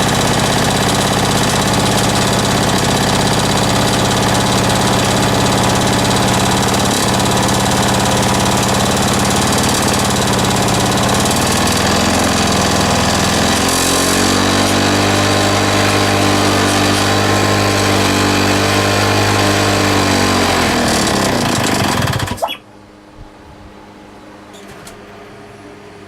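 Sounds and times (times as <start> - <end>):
lawn mower engine running: 0.0 - 22.5.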